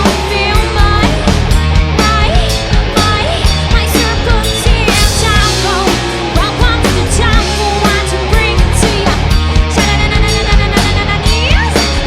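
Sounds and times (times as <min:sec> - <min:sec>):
guitar rock music: 0:00.0 - 0:12.0.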